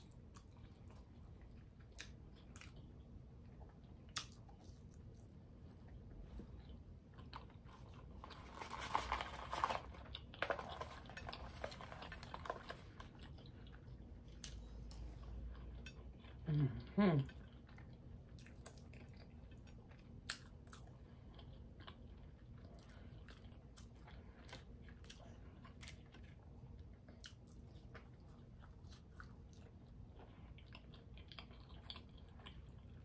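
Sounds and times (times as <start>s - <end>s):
chewing food: 0.0s - 33.0s.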